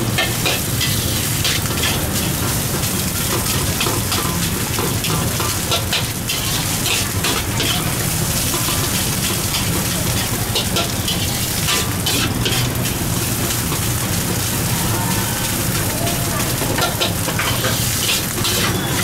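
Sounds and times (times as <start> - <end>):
rice sizzling in a wok: 0.0 - 19.0
metal ladle scraping a wok: 0.1 - 13.0, 16.7 - 19.0.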